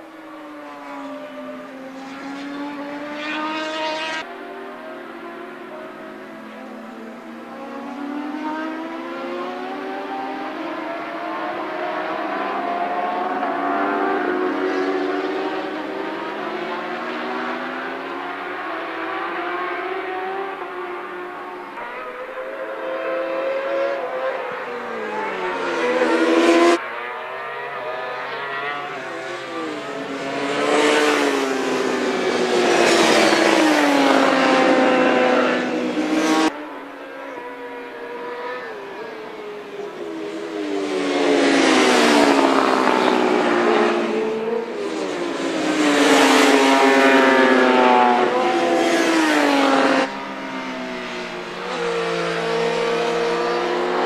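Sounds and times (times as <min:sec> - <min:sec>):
racing motorcycles revving past: 0:00.3 - 0:36.6, 0:37.3 - 0:54.0.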